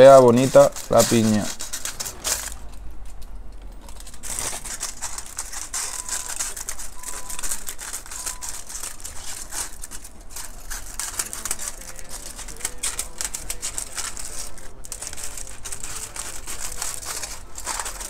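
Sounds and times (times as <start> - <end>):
scissors cutting foil: 0.0 - 3.2, 3.8 - 18.0
aluminium foil crinkling: 0.0 - 18.0.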